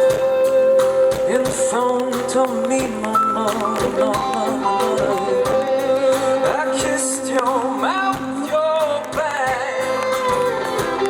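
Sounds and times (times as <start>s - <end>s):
band instrumental accompaniment: 0.0s - 11.0s
person singing with sliding notes: 0.0s - 11.0s.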